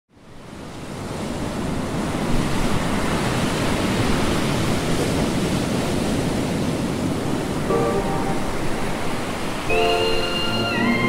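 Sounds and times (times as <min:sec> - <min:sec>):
ocean surf rushing: 0:01.8 - 0:11.0.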